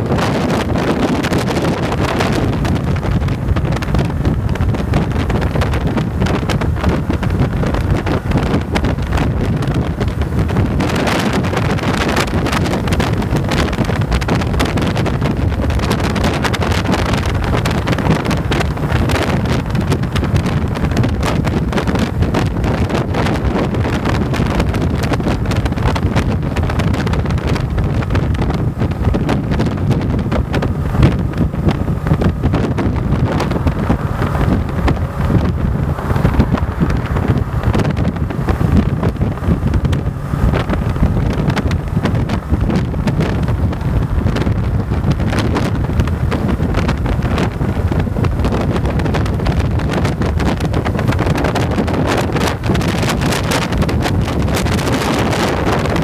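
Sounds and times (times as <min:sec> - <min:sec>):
motorcycle engine: 0:00.0 - 0:56.0
road noise: 0:00.0 - 0:56.0
wind buffeting microphone: 0:00.0 - 0:56.0.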